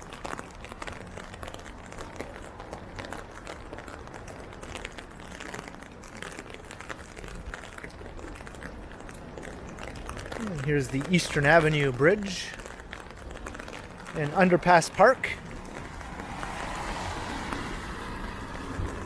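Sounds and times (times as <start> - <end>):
rain pattering on an umbrella: 0.0 - 19.0.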